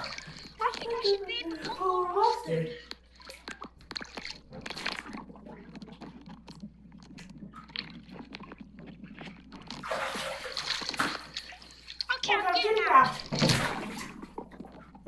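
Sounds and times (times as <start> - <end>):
underwater crackling and clicking: 0.0 - 15.0.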